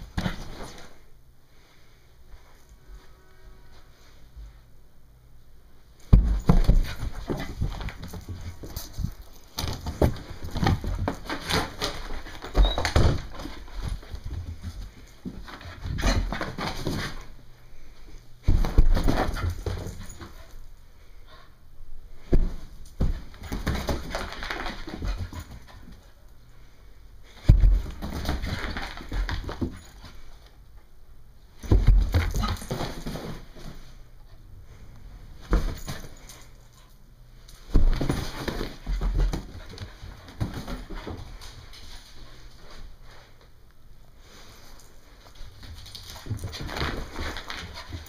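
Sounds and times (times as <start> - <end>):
puppy scuffling in play: 0.0 - 1.1, 6.0 - 30.5, 31.6 - 48.0.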